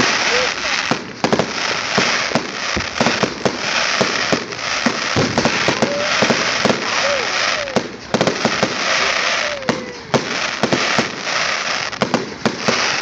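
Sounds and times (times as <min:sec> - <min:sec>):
fireworks bangs and pops: 0:00.0 - 0:13.0
fireworks hiss: 0:00.0 - 0:13.0.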